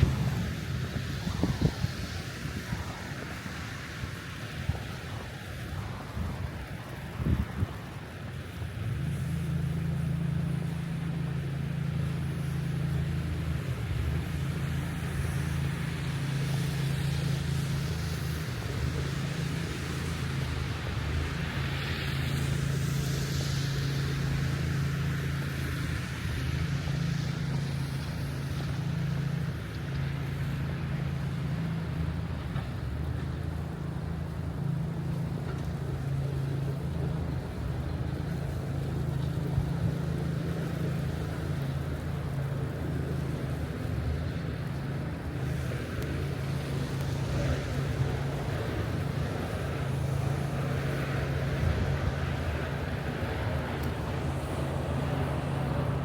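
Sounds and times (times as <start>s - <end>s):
city street traffic hiss: 0.0s - 56.0s
passing vehicle hiss: 0.0s - 56.0s
wind buffeting microphone: 0.0s - 56.0s.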